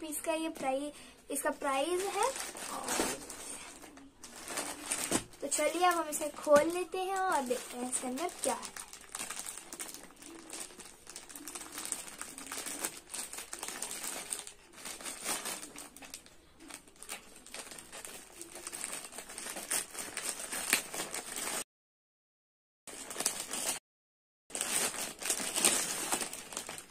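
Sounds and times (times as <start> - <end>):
plastic mailer bag crinkling: 0.2 - 21.6, 22.9 - 23.8, 24.5 - 26.9.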